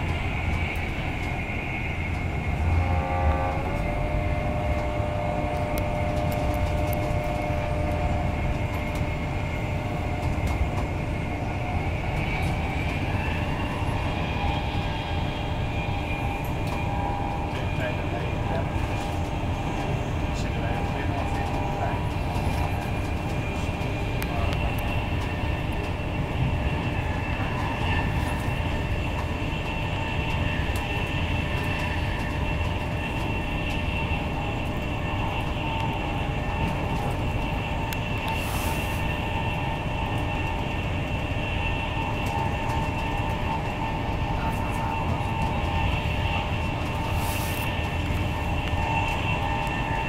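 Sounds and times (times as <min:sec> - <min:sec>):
faint high whine: 0:00.0 - 0:50.0
train wheels rumbling on rail: 0:00.0 - 0:50.0.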